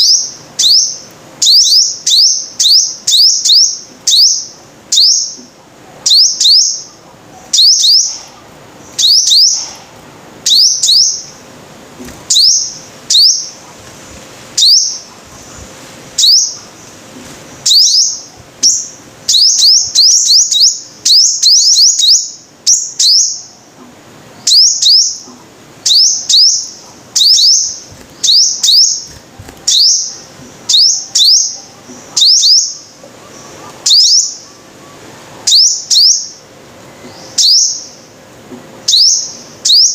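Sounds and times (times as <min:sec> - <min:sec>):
sunbird chirping: 0:00.0 - 0:23.7, 0:24.3 - 0:38.2, 0:38.8 - 0:39.9.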